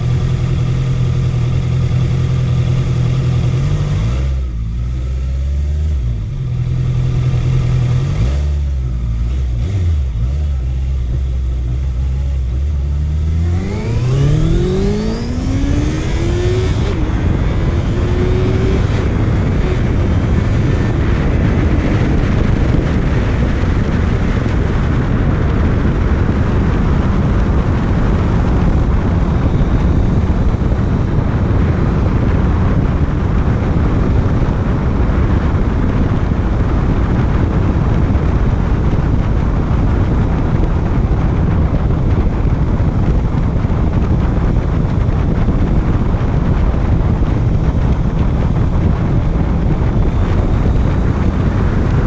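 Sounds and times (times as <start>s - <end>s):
motorcycle engine accelerating: 0.0s - 52.0s
wind noise on microphone: 0.0s - 52.0s.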